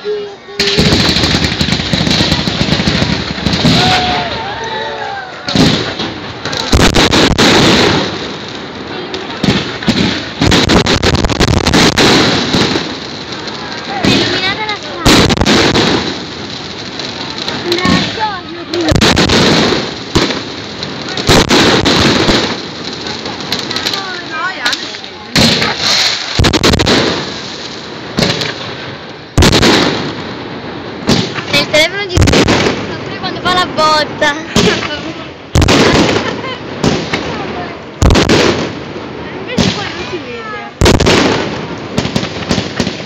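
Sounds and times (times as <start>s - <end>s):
fireworks bursting: 0.0s - 43.0s.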